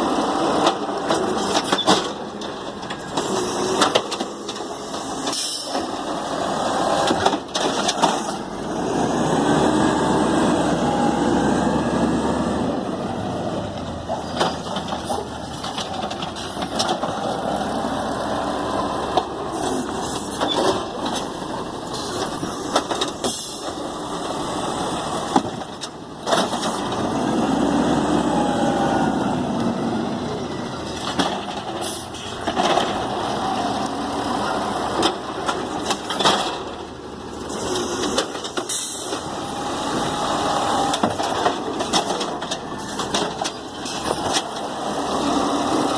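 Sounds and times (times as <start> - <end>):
garbage truck engine revving: 0.0 - 45.9.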